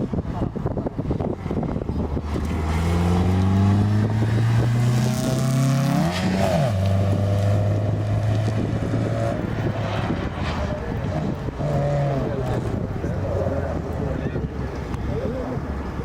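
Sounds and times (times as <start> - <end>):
rally car engine revving: 0.1 - 16.0.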